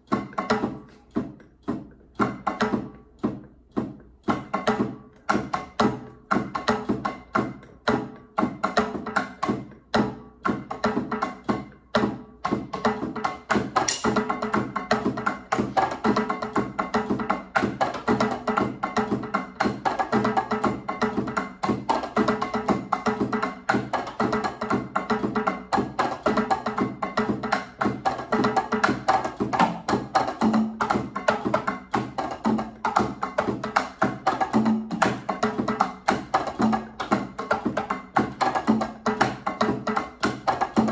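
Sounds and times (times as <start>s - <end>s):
electronic drum latin percussion: 0.0s - 40.9s.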